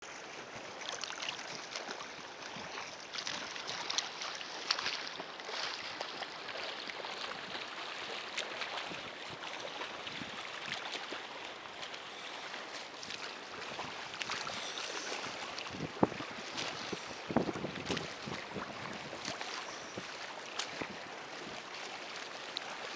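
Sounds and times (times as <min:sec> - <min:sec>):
steady wash of water: 0:00.2 - 0:22.9
water splashing: 0:00.8 - 0:22.9.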